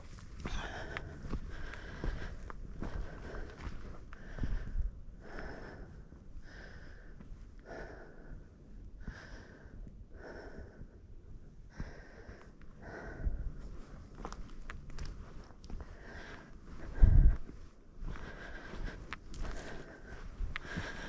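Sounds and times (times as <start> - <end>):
person breathing hard: 0.2 - 21.0.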